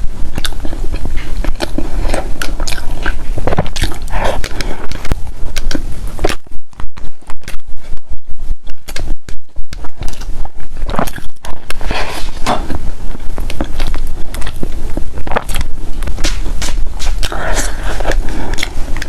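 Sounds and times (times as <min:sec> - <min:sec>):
chewing food: 0:00.0 - 0:08.0, 0:08.7 - 0:19.0.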